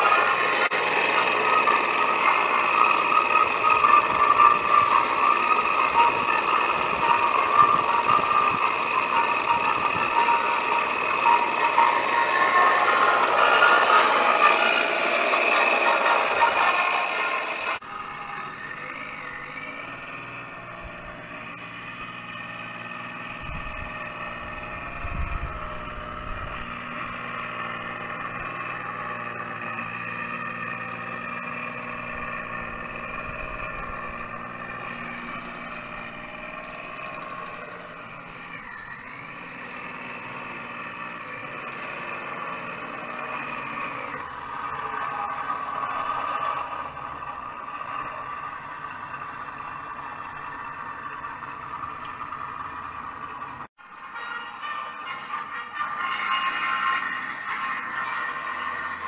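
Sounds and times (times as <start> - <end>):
model tank engine: 0.0 - 59.0.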